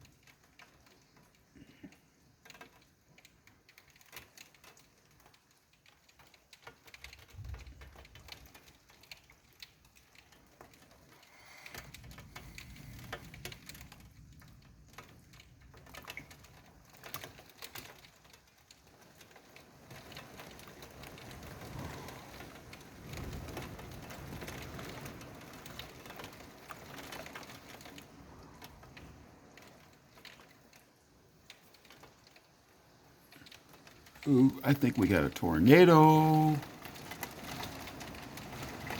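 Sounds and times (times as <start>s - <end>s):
rain pattering on hard surfaces: 0.0s - 38.9s.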